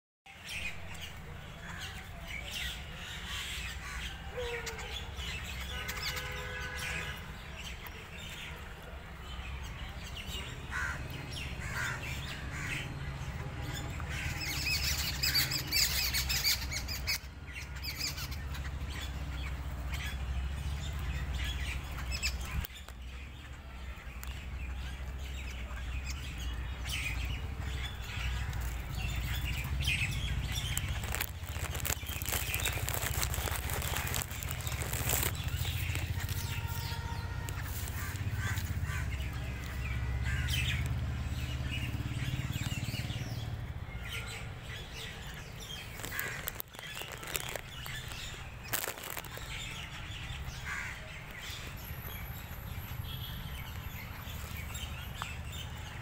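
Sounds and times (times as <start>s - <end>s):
birds chirping: 0.3s - 56.0s.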